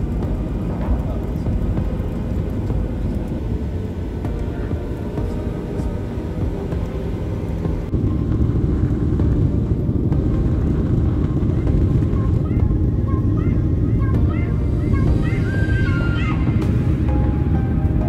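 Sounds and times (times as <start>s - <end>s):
jet airliner cabin engine rumble: 0.0s - 18.0s.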